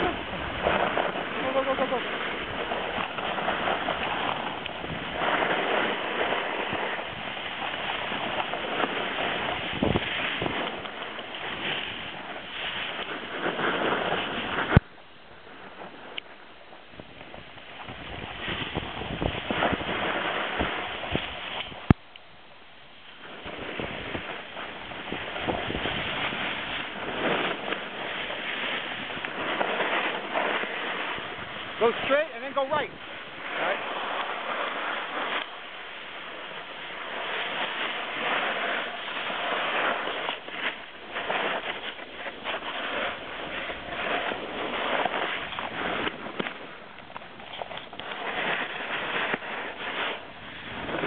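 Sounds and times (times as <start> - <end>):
snowboard scraping over snow: 0.0 - 22.0, 22.9 - 51.0
wind rushing over microphone: 0.0 - 51.0.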